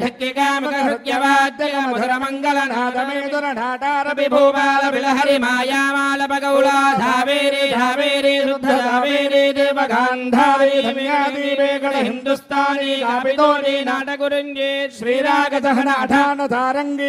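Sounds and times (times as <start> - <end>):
men chanting into microphones: 0.0 - 17.0.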